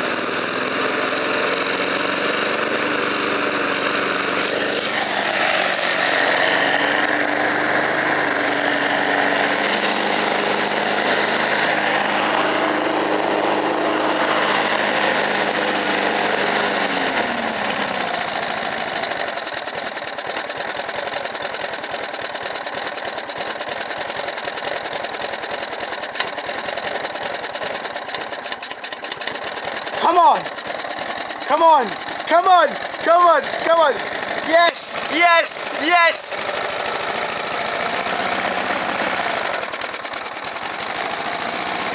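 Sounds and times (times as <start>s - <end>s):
lawnmower engine running: 0.0s - 41.9s.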